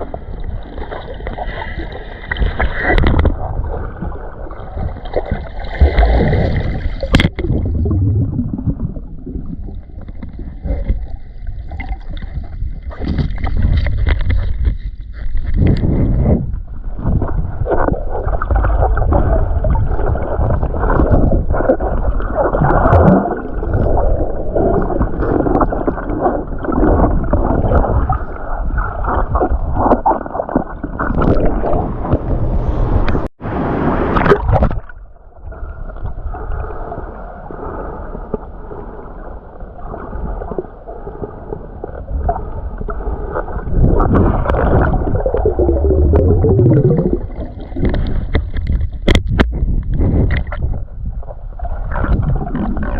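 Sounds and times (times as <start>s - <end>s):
muffled underwater churning water: 0.0s - 52.9s.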